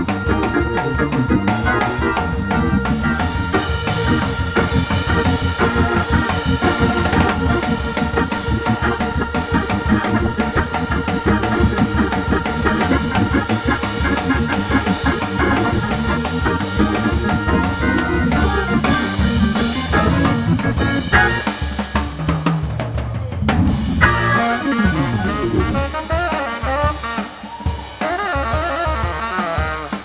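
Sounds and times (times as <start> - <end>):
sustained organ chords: 0.0 - 22.1, 23.4 - 26.2
jazz drum kit: 0.0 - 30.0.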